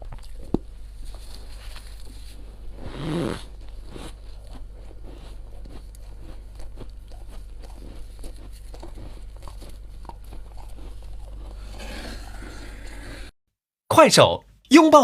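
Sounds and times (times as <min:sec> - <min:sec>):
freezer frost crackling: 0:00.0 - 0:12.7.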